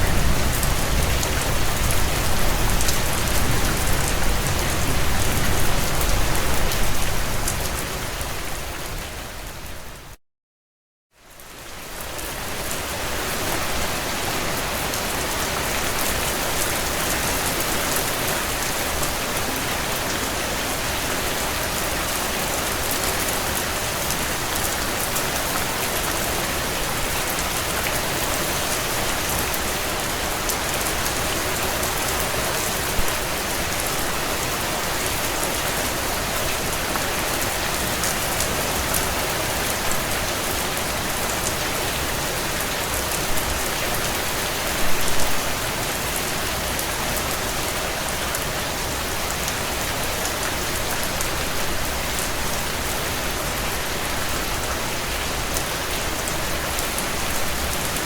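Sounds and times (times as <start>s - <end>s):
heavy rain on a tin roof: 0.0s - 10.2s, 11.2s - 58.0s.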